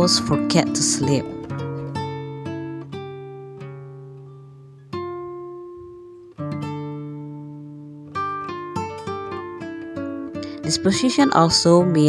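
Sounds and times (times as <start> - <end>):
slow plucked string chords: 0.0 - 12.0.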